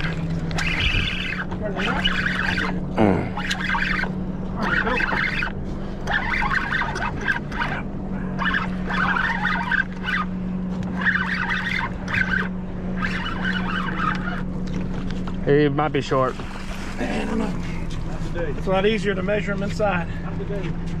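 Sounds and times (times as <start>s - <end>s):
fishing reel gears whirring: 0.0s - 20.9s
steady low hum: 0.0s - 21.0s.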